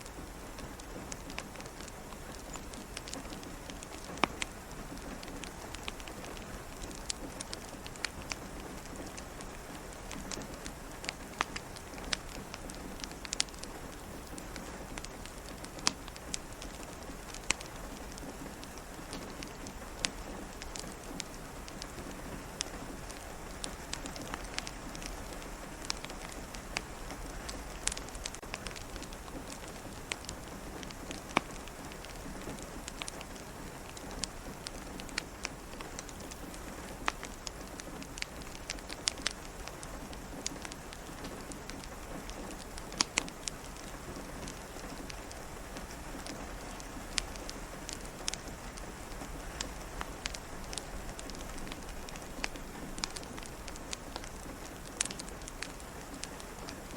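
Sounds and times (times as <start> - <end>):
steady rain: 0.0 - 56.9
wood fire crackling: 0.0 - 56.9.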